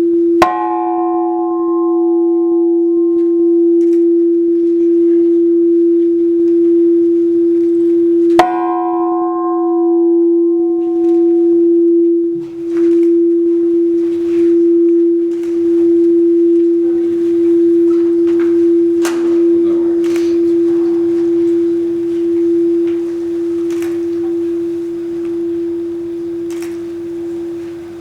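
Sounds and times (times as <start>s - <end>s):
large temple bell humming: 0.0s - 28.0s.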